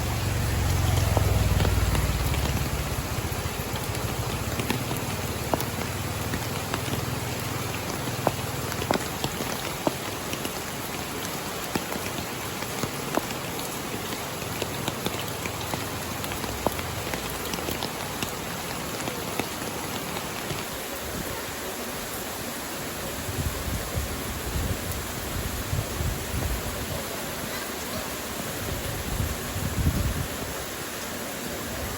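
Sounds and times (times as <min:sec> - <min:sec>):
rain drops ticking on surface: 0:00.0 - 0:31.9.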